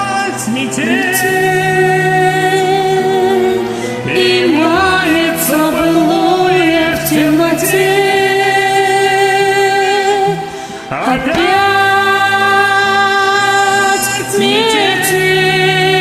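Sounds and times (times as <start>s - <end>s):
karaoke backing track: 0.0s - 16.0s
woman singing with vibrato: 0.0s - 16.0s.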